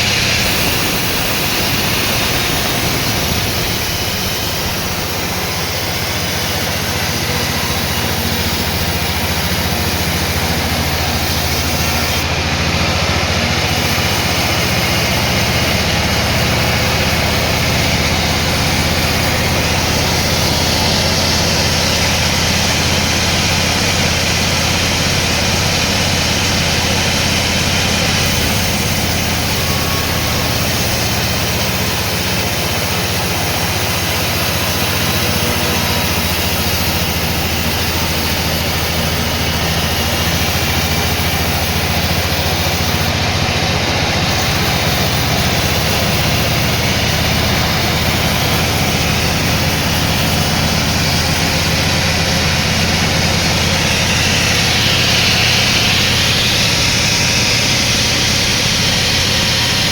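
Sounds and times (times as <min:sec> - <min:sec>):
sawmill machinery humming and whirring: 0:00.0 - 0:59.9.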